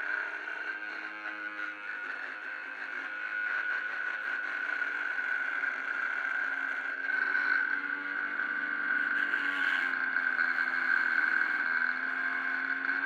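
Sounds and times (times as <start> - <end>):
angle grinder motor whining: 0.0 - 13.0.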